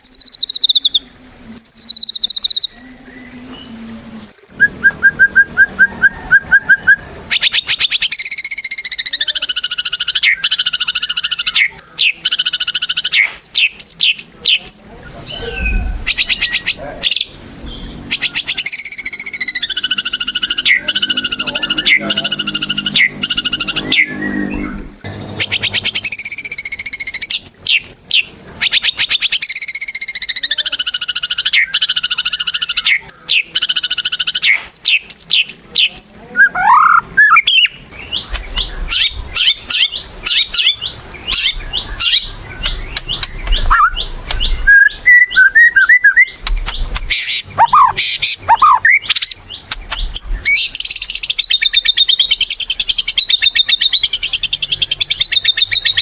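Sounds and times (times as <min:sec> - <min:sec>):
songbird singing varied song: 0:00.0 - 0:56.0.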